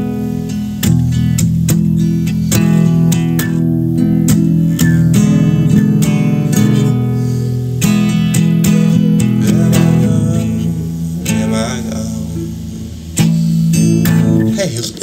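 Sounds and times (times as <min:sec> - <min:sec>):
strummed acoustic guitar blues: 0:00.0 - 0:15.0.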